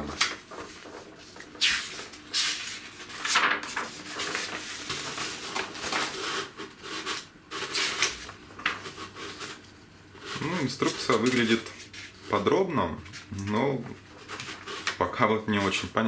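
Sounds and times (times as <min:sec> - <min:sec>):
paper pages turning: 0:00.0 - 0:16.0.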